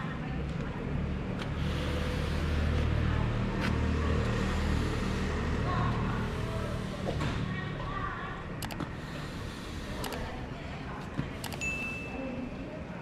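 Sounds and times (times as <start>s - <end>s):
low engine hum: 0.0s - 11.4s.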